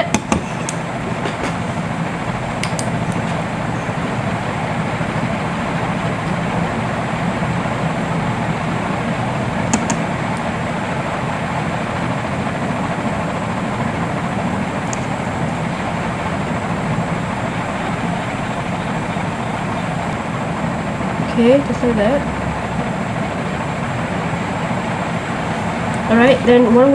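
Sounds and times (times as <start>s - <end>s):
low hum: 0.0s - 26.9s.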